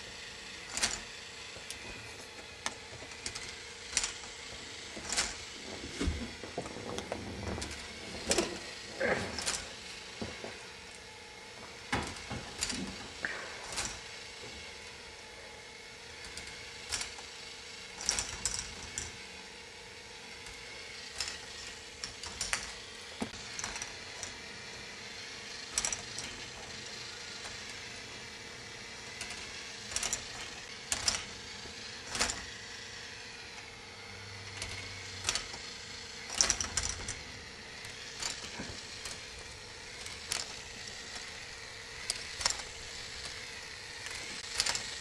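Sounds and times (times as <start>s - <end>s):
motor hum: 0.0s - 45.0s.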